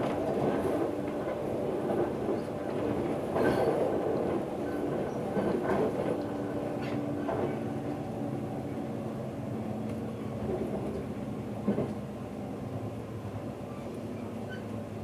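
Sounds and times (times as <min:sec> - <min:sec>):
railcar rumble and diesel hum: 0:00.0 - 0:15.0.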